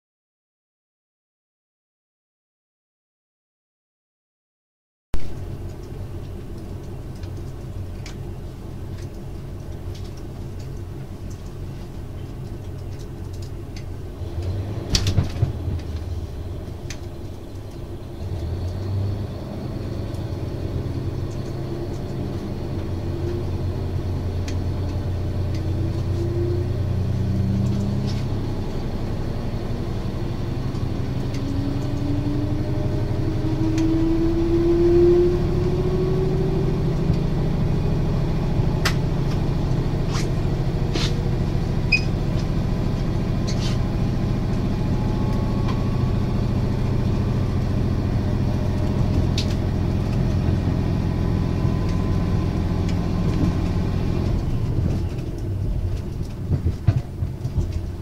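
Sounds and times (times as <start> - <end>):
diesel railcar engine running: 5.2 - 58.0.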